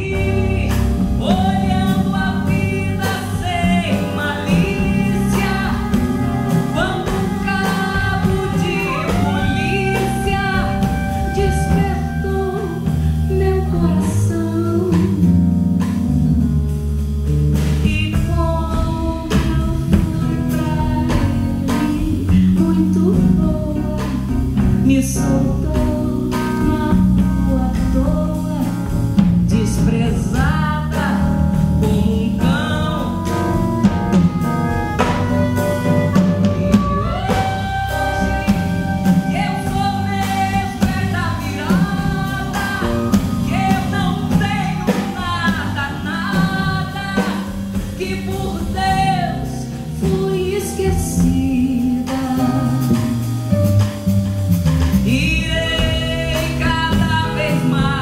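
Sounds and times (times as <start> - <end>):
woman singing into a microphone: 0.0 - 15.7, 17.8 - 33.9, 35.9 - 53.3, 55.1 - 58.0
band with bass guitar and drums: 0.0 - 58.0.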